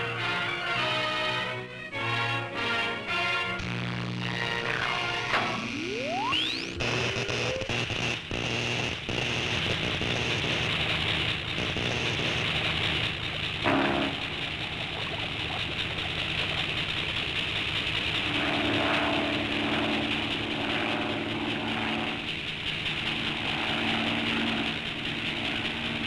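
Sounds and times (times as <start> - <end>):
electrical machinery hum: 0.0 - 26.0
soundtrack hiss: 0.0 - 26.0
low droning tone: 3.5 - 26.0.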